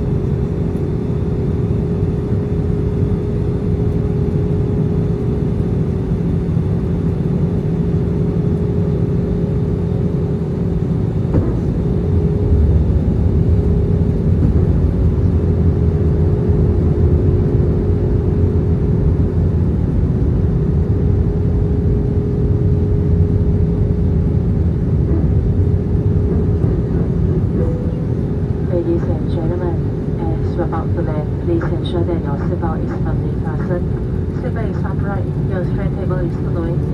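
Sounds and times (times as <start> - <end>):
airplane cabin engine rumble: 0.0 - 36.9
constant hum: 0.0 - 36.9.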